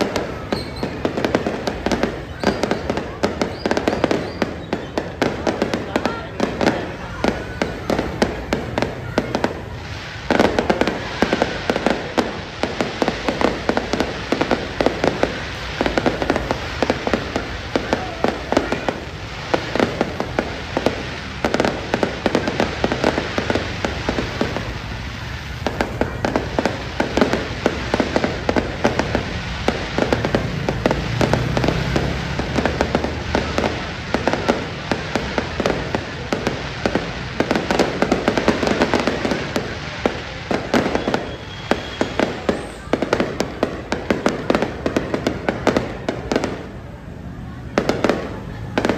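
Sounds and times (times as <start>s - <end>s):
fireworks bangs and pops: 0.0s - 48.9s.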